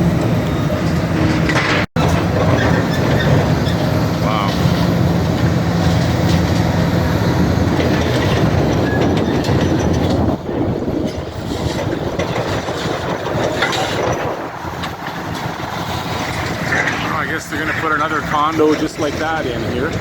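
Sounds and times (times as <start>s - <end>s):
diesel engine under load: 0.0s - 20.0s
debris crunching and clattering: 0.8s - 19.1s.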